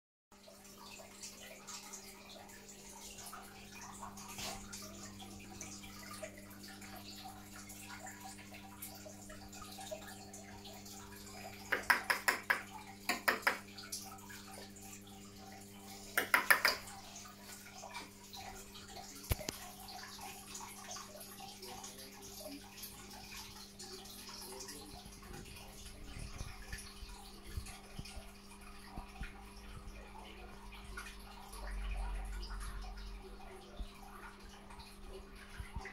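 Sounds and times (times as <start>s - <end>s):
aquarium water trickling and splashing: 0.3s - 35.9s
filter pump electrical hum: 0.4s - 35.9s.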